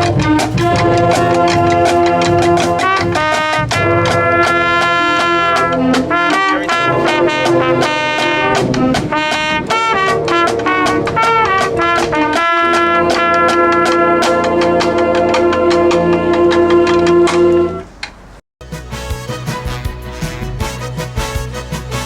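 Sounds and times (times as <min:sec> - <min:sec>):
drum beat: 0:00.0 - 0:17.5, 0:18.6 - 0:22.0
brass band playing: 0:00.0 - 0:17.8, 0:18.6 - 0:22.0.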